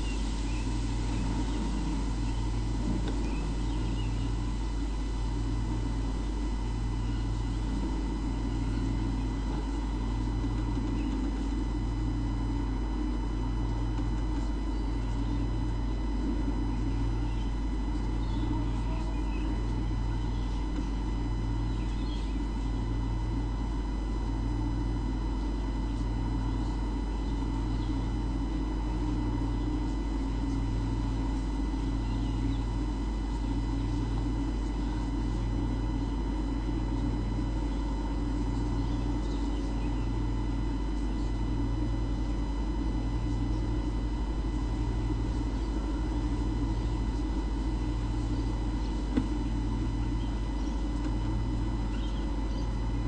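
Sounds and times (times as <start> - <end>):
machine hum: 0.0 - 53.0
pulsing low drone: 0.0 - 53.0.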